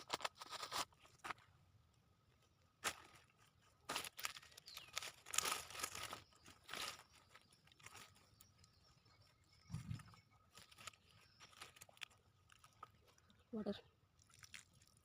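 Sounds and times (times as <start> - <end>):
hands crunching dry soil: 2.2 - 15.0.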